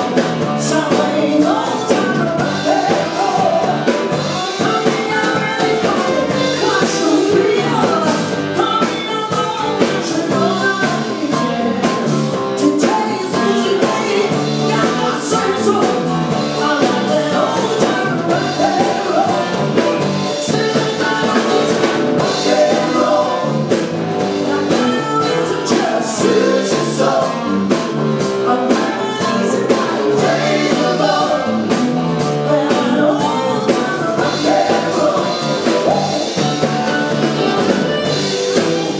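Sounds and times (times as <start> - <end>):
live rock band with singer: 0.0 - 38.9.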